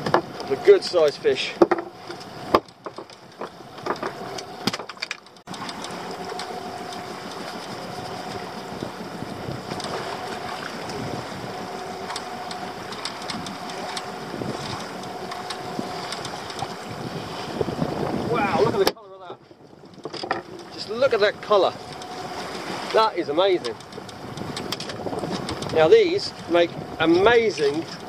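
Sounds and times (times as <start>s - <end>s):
sea noise: 0.0s - 28.0s
wind: 0.0s - 28.0s
fishing reel whirring and clicking: 0.4s - 18.8s, 19.9s - 28.0s.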